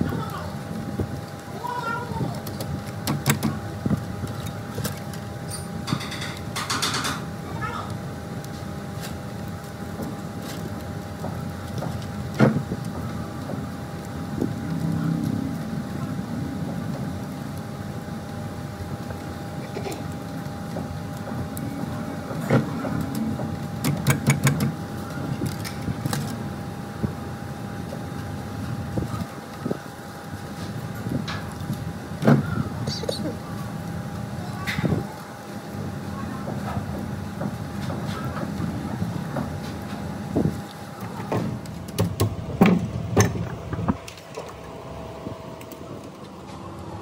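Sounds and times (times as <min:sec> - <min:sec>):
faint constant whine: 0:00.0 - 0:47.0.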